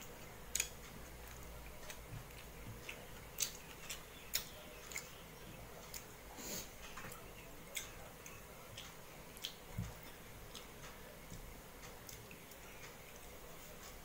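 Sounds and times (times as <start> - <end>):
chewing: 0.1 - 14.0.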